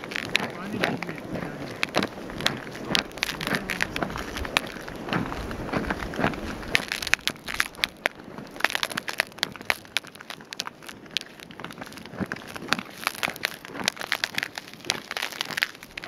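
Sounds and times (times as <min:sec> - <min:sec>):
boots crunching on snow: 0:00.0 - 0:16.0
snow crackling underfoot: 0:00.0 - 0:16.0.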